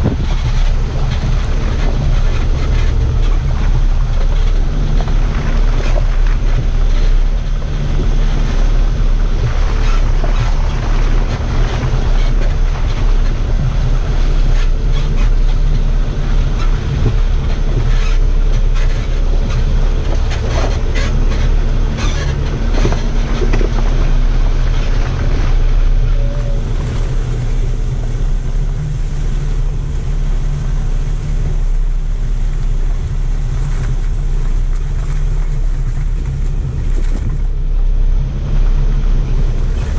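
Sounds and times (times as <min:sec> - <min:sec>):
off-road vehicle rumbling: 0:00.0 - 0:39.9.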